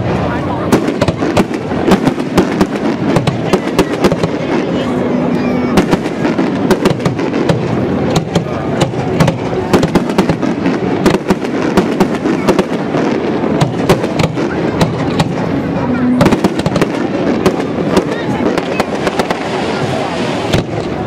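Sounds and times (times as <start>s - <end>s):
firework bangs and crackles: 0.0s - 21.0s
rumble of firework barrage: 0.0s - 21.0s.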